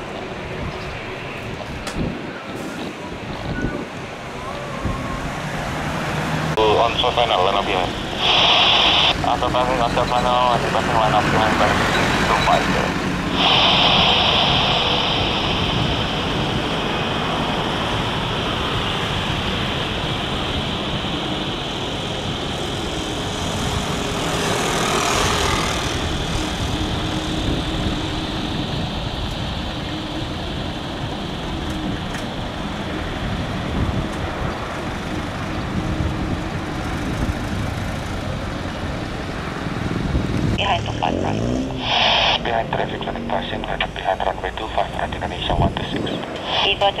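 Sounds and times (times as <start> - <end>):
jet engines rushing and whining: 0.0 - 47.0.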